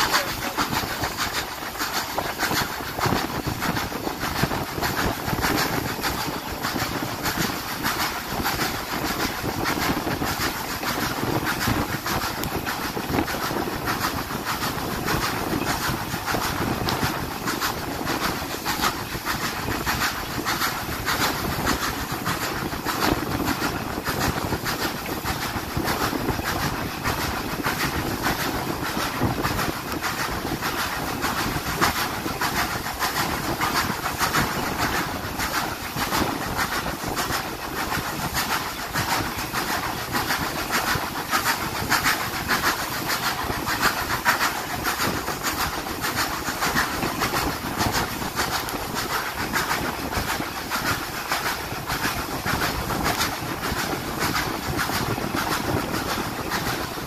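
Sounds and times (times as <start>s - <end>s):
train rumbling along track: 0.0s - 57.0s
wheels knocking rapidly: 0.0s - 57.0s.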